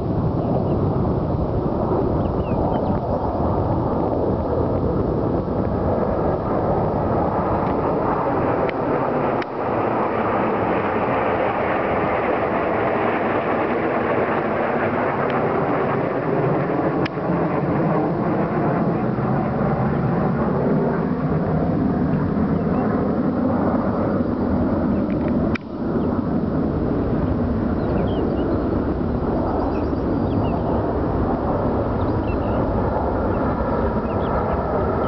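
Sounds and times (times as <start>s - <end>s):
jet engines roaring overhead: 0.0s - 35.0s.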